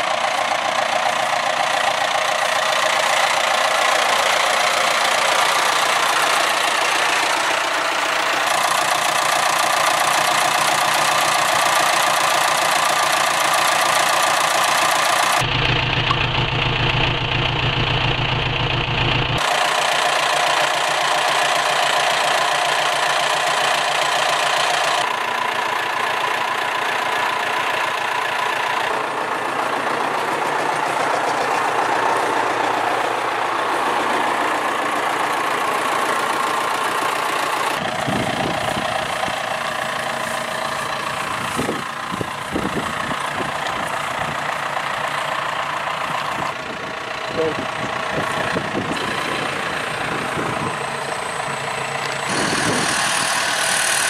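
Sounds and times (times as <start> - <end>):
tractor engines idling: 0.0 - 54.0.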